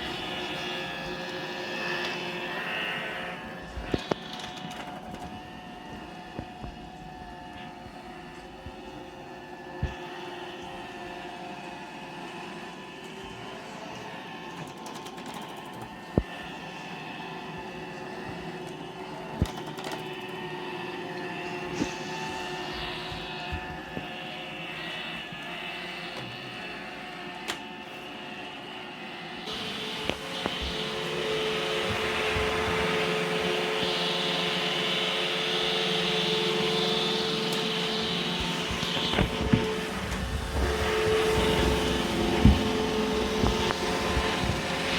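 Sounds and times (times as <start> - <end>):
robot vacuum hum: 0.0 - 44.9.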